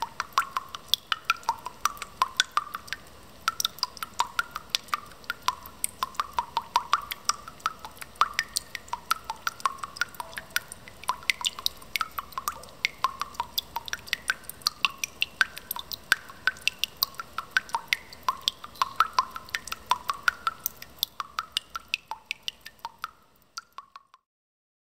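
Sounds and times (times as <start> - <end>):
ringing drip-like plinks: 0.0 - 24.2.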